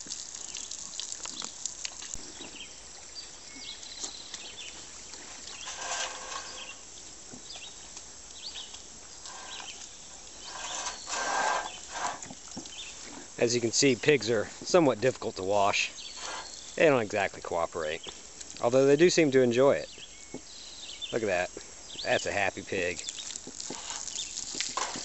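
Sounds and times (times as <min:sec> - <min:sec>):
hose water spraying: 0:00.0 - 0:19.3, 0:22.1 - 0:25.0.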